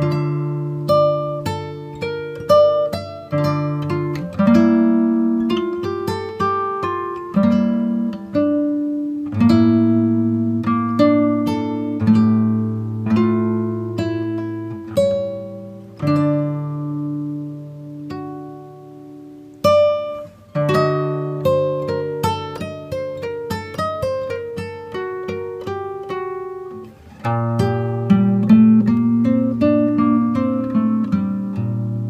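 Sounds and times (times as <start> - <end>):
acoustic guitar music: 0.0 - 32.0.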